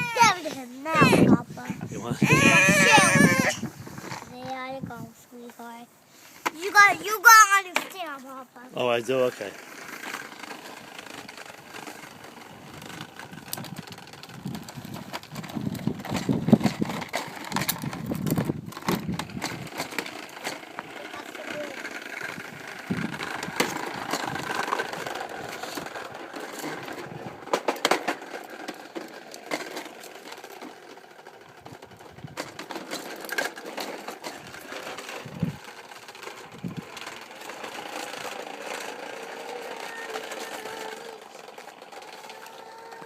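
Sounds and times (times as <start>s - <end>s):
toy lawn mower rattling: 0.0s - 43.0s.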